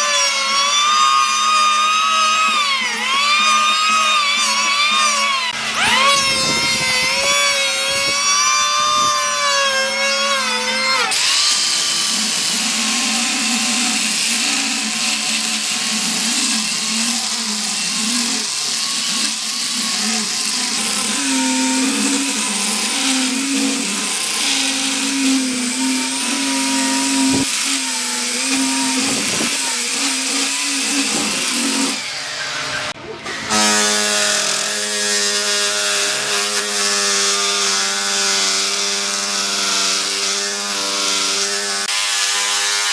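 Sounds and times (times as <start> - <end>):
angle grinder sanding wood: 0.0 - 42.9
electric planer shaving wood: 0.0 - 42.9.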